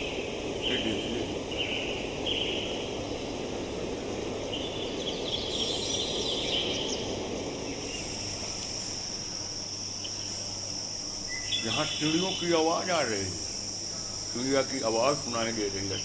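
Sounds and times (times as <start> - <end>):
birds calling: 0.0 - 16.0
high insect trill: 0.0 - 16.0.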